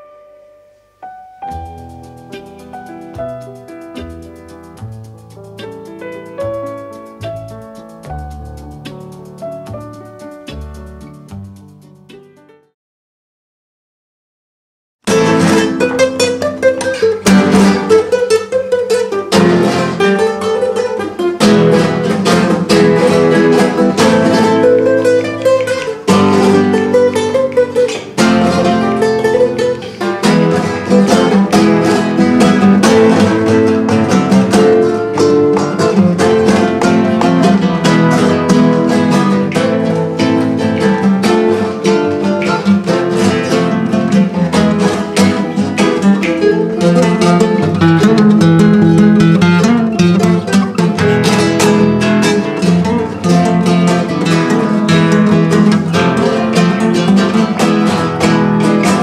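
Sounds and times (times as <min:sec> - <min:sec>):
flamenco acoustic guitar: 0:00.0 - 0:12.6, 0:15.0 - 0:59.0.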